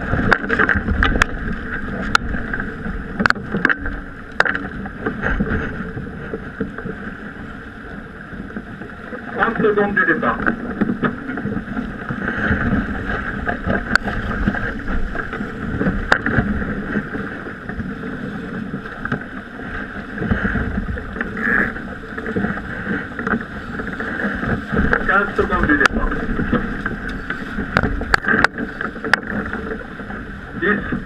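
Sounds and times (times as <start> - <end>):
water rushing along hull: 0.0 - 31.0
wind buffeting microphone: 0.0 - 31.0.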